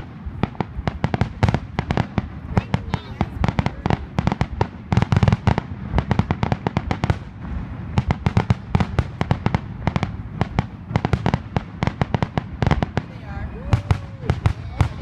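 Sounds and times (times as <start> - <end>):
firework bangs and crackles: 0.0 - 15.0.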